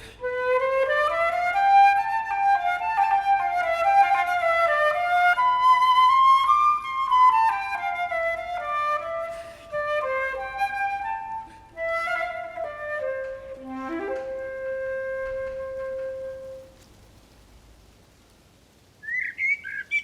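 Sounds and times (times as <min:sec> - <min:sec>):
slow sliding solo melody: 0:00.2 - 0:16.8.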